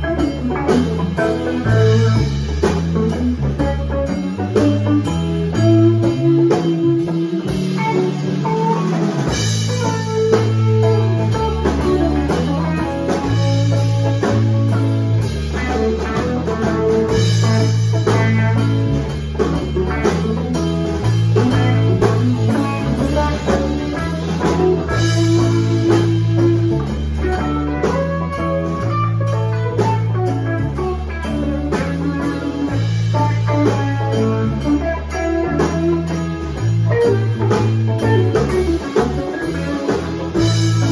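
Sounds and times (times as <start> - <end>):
bass guitar: 0.0 - 40.9
drum kit beat: 0.0 - 40.9
electric guitars: 0.0 - 40.9.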